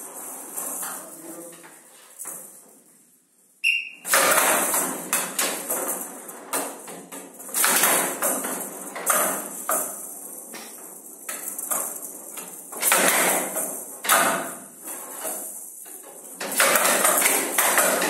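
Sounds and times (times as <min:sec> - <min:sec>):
ball rattling across table: 0:00.0 - 0:02.8, 0:04.0 - 0:18.0.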